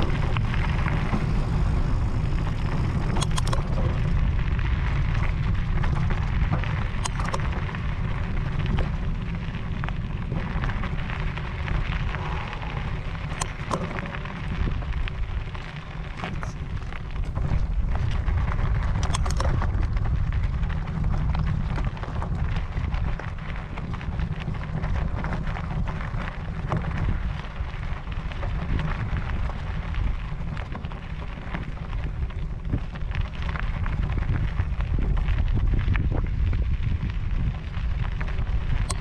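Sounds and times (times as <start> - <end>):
bike tyres crunching on gravel: 0.0 - 39.0
wind buffeting microphone: 0.0 - 39.0
stones clicking and rattling: 2.0 - 39.0.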